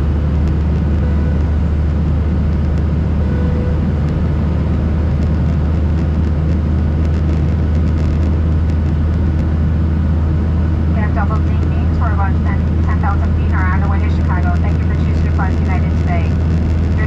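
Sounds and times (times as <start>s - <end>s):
jet engine drone: 0.0s - 17.0s.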